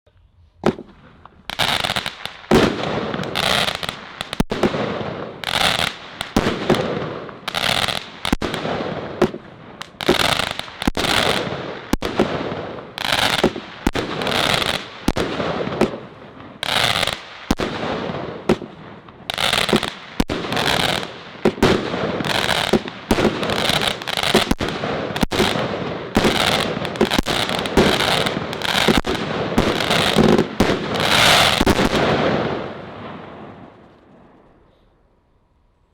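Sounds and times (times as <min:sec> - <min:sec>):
firework bangs: 0:00.6 - 0:34.4
firework crackling: 0:00.6 - 0:34.7.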